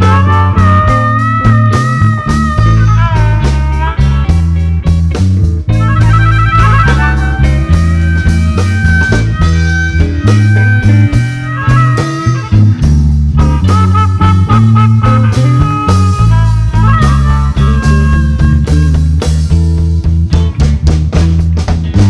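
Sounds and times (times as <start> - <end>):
amplified harmonica bending notes: 0.0 - 20.3
live blues band playing: 0.0 - 22.0.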